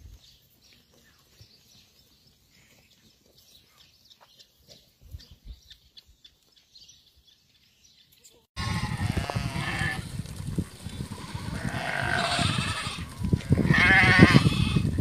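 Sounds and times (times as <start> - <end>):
sheep hooves clicking on stony dirt: 0.0 - 6.9, 8.6 - 15.0.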